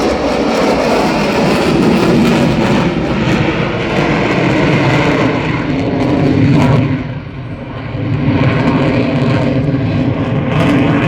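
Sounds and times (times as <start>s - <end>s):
airplane engine rushing: 0.0s - 11.0s.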